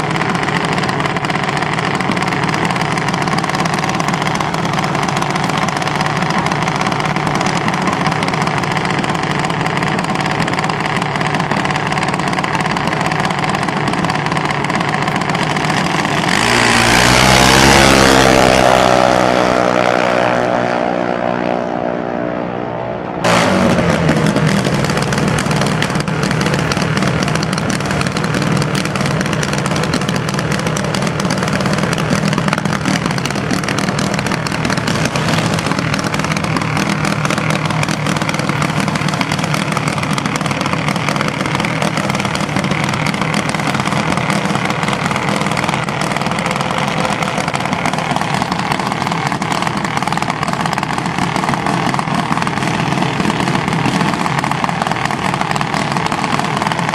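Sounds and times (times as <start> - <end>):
single-cylinder engine running: 0.0 - 22.6, 23.2 - 56.9.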